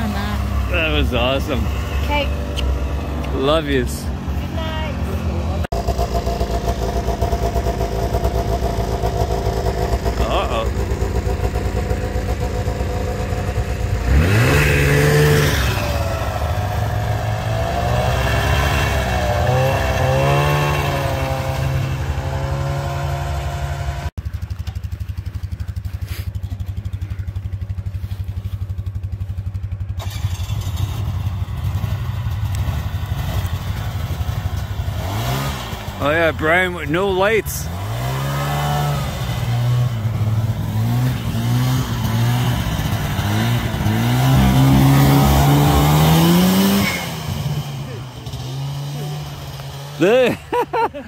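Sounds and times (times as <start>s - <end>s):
off-road vehicle engine revving: 0.0s - 24.2s, 29.9s - 51.0s
engine running steadily: 0.0s - 51.0s.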